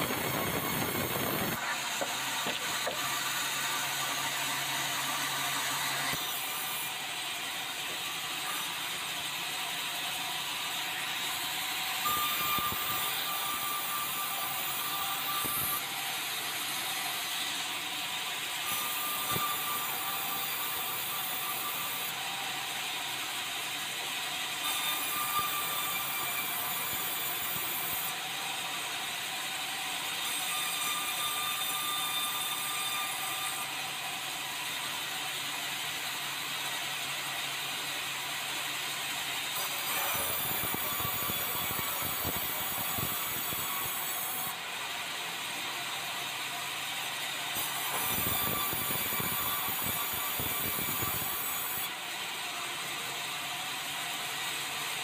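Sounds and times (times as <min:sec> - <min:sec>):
high saw blade whine: 0:00.0 - 0:54.8
band saws cutting boards: 0:00.0 - 0:55.0.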